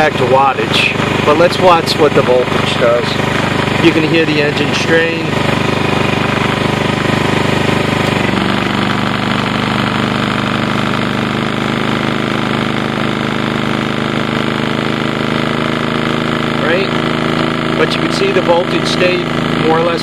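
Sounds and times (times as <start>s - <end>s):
generator engine straining: 0.0s - 20.0s.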